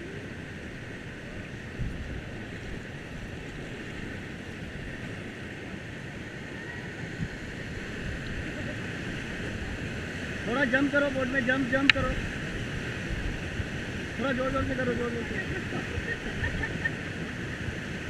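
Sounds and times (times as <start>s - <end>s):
river water rushing: 0.0s - 18.0s
wind buffeting microphone: 0.7s - 5.3s, 6.8s - 18.0s.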